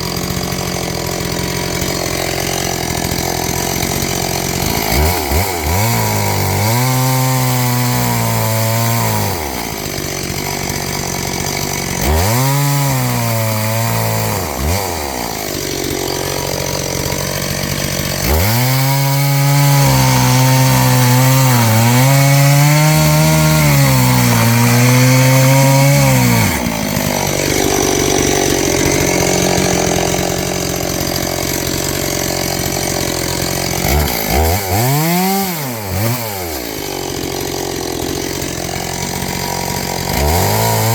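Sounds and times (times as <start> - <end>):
chainsaw revving cutting wood: 0.0 - 40.9.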